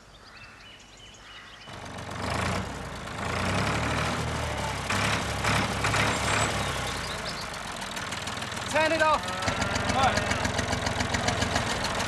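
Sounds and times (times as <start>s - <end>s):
vehicle engine idling: 1.7s - 12.0s.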